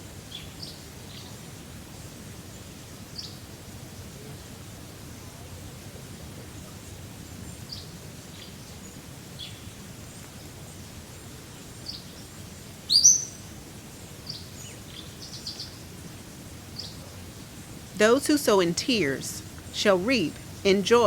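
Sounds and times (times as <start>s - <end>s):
wind hiss in a forest: 0.0s - 21.0s
songbirds chirping: 0.1s - 21.0s.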